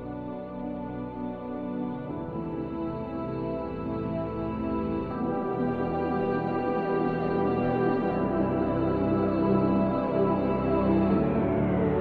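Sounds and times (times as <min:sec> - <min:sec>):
ambient music sustained chords: 0:00.0 - 0:12.0.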